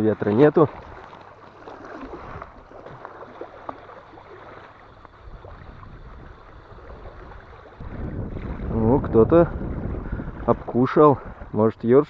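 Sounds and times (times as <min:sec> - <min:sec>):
waves lapping and splashing: 0:00.0 - 0:12.0.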